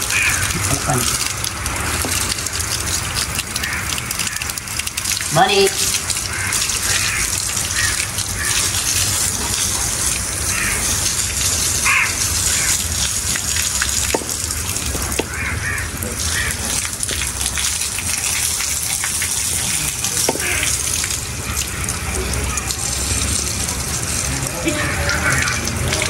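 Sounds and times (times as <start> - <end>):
hose water splashing on concrete: 0.0 - 26.0.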